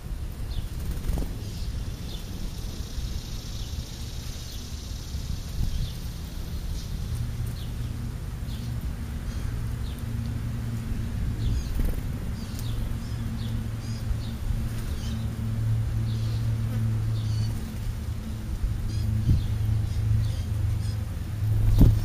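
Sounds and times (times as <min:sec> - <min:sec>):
sparrows chirping: 0:00.0 - 0:22.0
buzzing insect drone: 0:00.8 - 0:08.6, 0:10.4 - 0:22.0.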